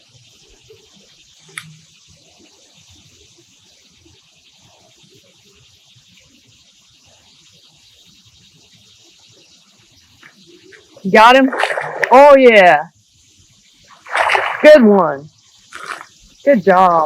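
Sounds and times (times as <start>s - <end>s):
faint steady high hiss: 0.0s - 17.0s.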